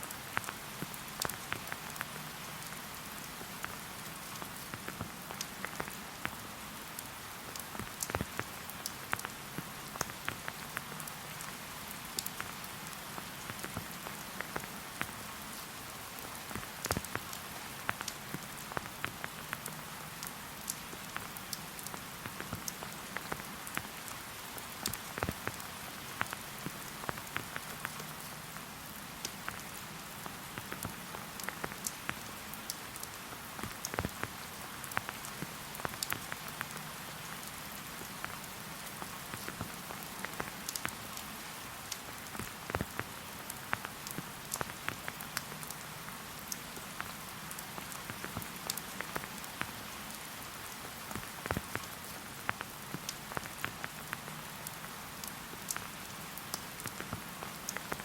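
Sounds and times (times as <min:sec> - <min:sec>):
raindrops ticking close by: 0:00.0 - 0:58.0
steady rain hiss: 0:00.0 - 0:58.0.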